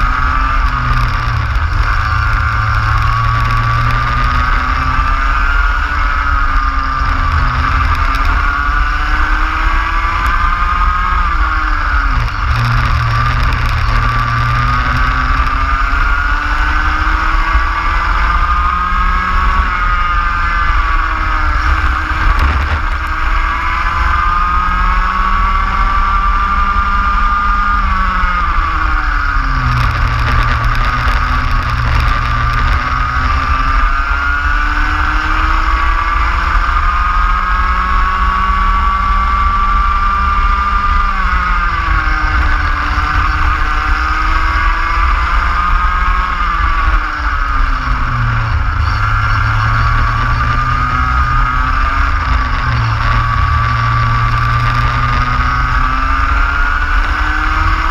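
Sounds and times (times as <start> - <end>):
kart engine racing: 0.0 - 57.9
rumble of wind and vibration: 0.0 - 57.9.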